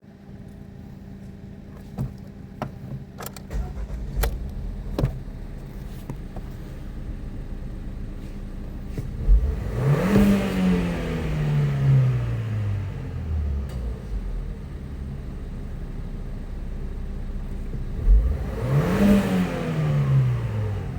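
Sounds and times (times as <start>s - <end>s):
car engine running and revving: 3.4s - 20.9s.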